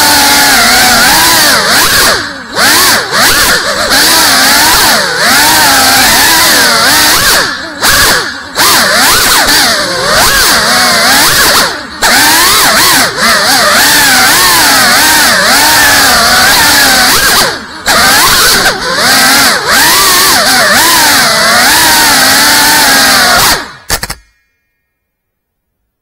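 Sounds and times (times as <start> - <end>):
drone propellers whining: 0.0 - 24.2.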